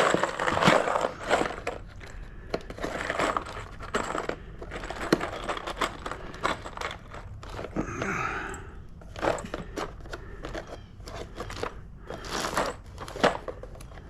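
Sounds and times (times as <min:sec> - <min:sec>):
screws rattling in a box: 0:00.0 - 0:14.0.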